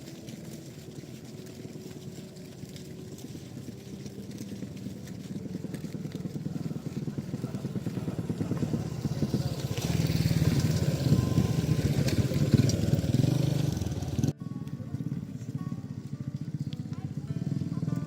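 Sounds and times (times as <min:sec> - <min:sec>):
small engine puttering: 0:00.0 - 0:18.0.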